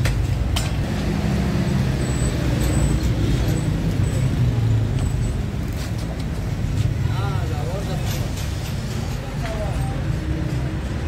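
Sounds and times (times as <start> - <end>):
street traffic: 0.0 - 11.0
vehicle engine rumbling: 0.0 - 11.0.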